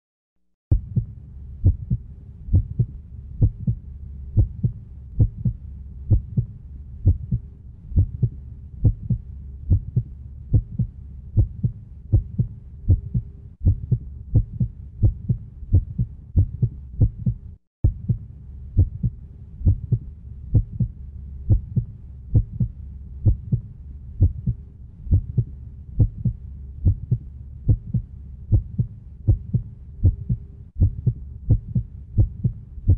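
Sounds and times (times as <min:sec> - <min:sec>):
heartbeat thumps: 0:00.7 - 0:03.8, 0:04.4 - 0:32.9
low steady hum: 0:00.7 - 0:32.9.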